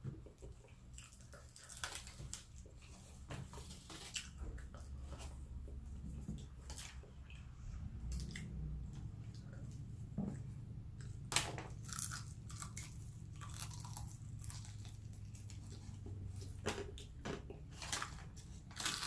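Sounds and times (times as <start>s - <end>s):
low steady hum: 0.0s - 19.0s
person chewing food: 0.0s - 19.0s.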